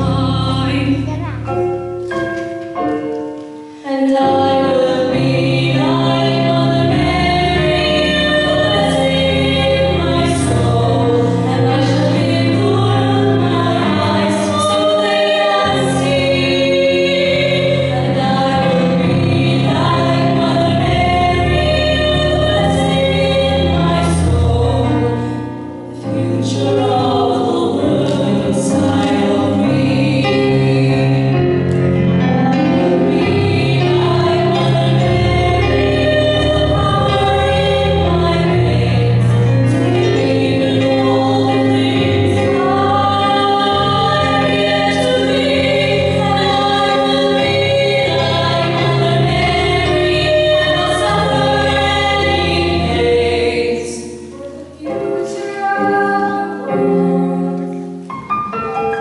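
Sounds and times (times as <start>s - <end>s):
young voices singing in harmony: 0.0s - 2.2s, 3.7s - 58.0s.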